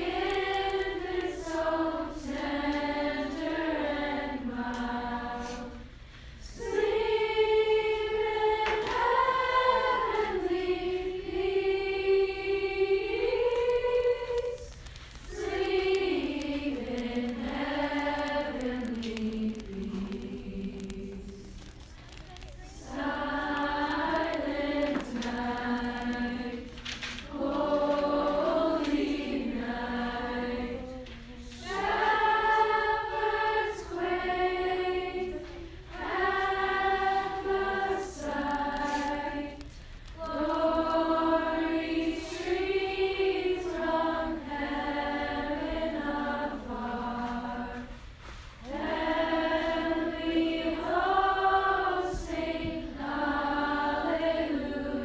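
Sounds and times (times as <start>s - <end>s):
choir singing slow phrases: 0.0s - 55.0s.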